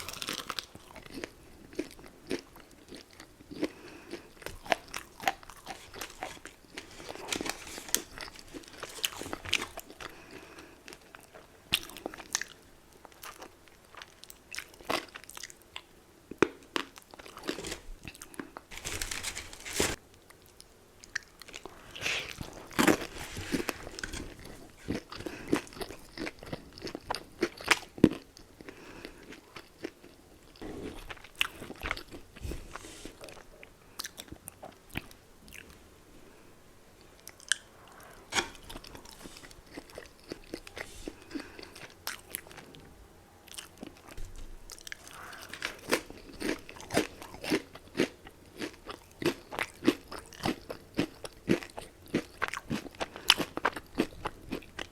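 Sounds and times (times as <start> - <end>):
crunchy chewing of fried chicken: 0.0 - 35.8, 37.0 - 54.9.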